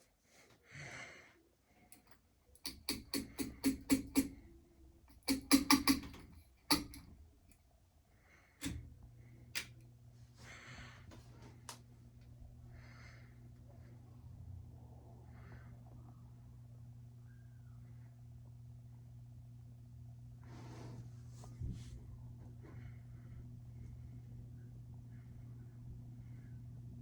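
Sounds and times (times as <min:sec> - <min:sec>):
ceiling fan motor humming: 0:01.9 - 0:07.6, 0:08.2 - 0:27.0.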